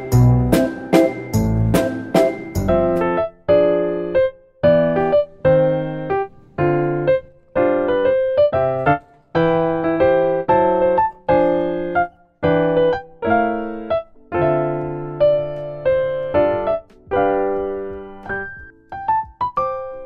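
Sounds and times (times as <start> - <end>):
slow keyboard chords: 0.0 - 20.0.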